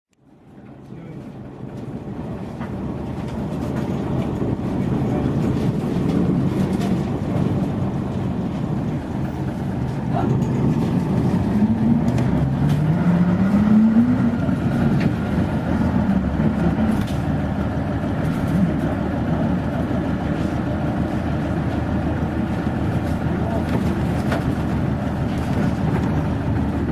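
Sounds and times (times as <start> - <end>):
bus body rattles and clicks: 0.2 - 26.9
bus diesel engine accelerating: 0.2 - 26.9.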